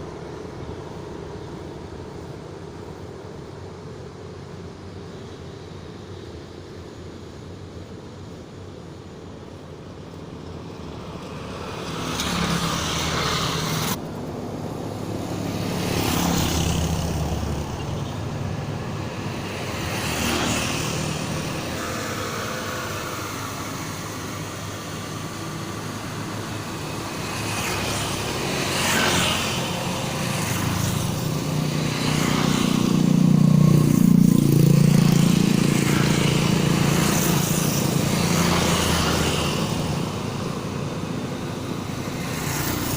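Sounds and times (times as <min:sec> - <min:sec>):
vehicles passing: 0:00.0 - 0:42.9.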